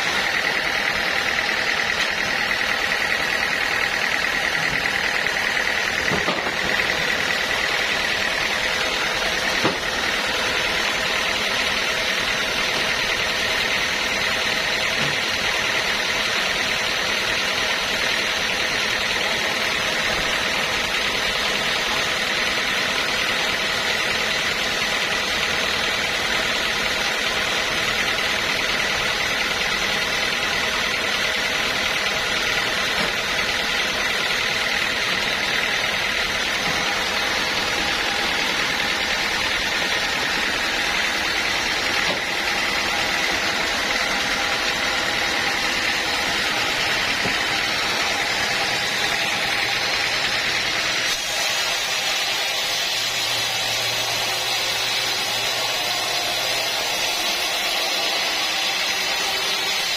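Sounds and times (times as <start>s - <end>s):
sawmill machinery whine: 0.0s - 59.9s.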